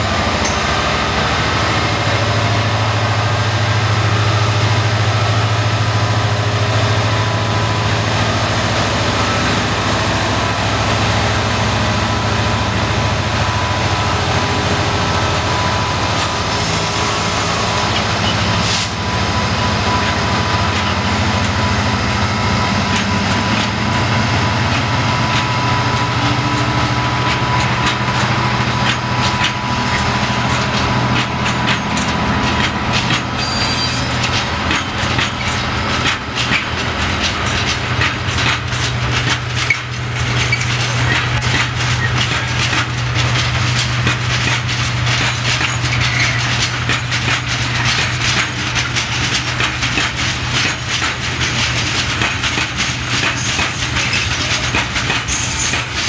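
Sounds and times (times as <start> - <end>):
locomotive engine droning: 0.0 - 56.0
wagons clattering over rail joints: 0.0 - 56.0.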